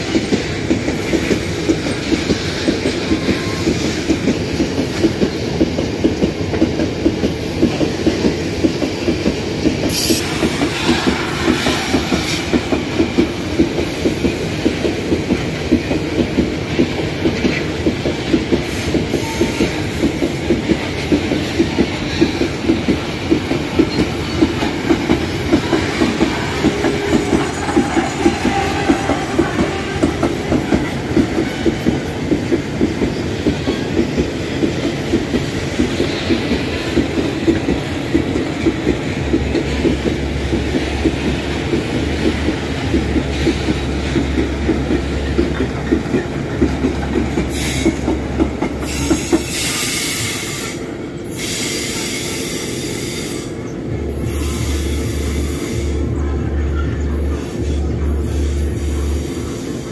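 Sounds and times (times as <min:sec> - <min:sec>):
train wheels rumbling on rails: 0:00.0 - 0:59.9
wheels clickety-clack on rail joints: 0:00.0 - 0:59.9.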